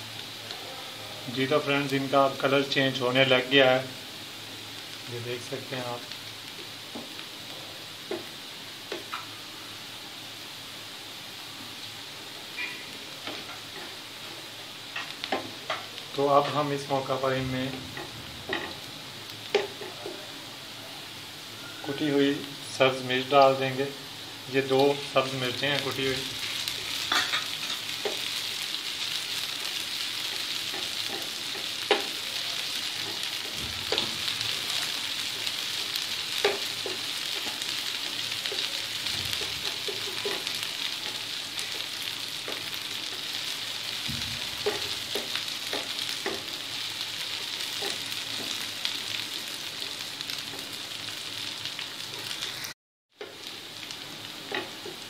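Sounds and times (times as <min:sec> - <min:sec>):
onions sizzling in hot oil: 0:00.0 - 0:55.0.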